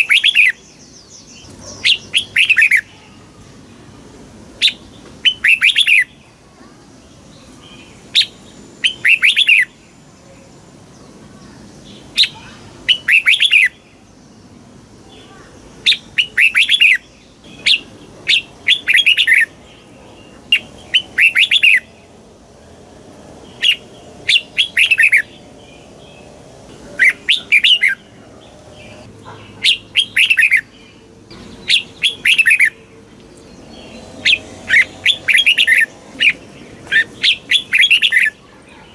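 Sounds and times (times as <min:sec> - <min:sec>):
bird singing bright phrases: 0:00.0 - 0:38.9.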